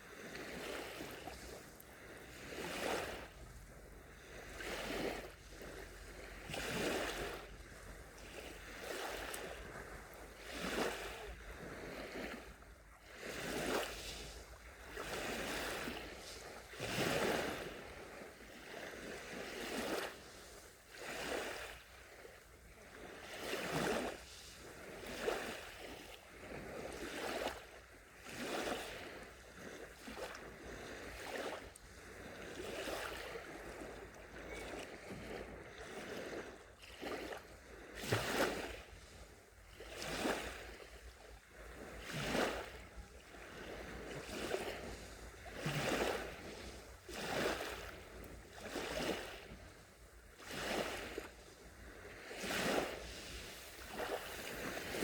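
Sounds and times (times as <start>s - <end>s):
sea waves lapping on shore: 0.0s - 55.0s.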